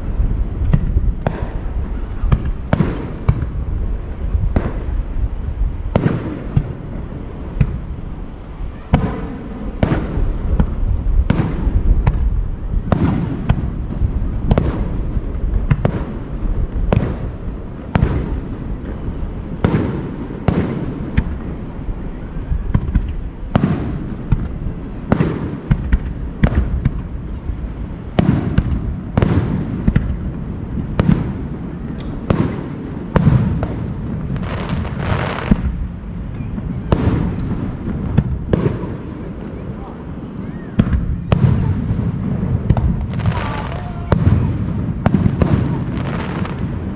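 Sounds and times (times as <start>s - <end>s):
continuous low rumble: 0.0s - 46.9s
crackling hiss of fireworks: 0.0s - 46.9s
fireworks bursting: 0.0s - 46.9s.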